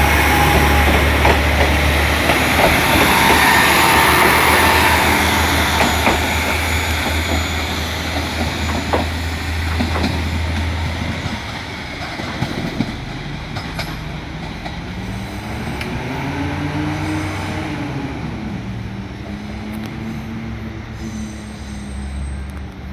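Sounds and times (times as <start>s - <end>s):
train running gear rumble: 0.0s - 21.0s
diesel engine: 0.0s - 22.8s.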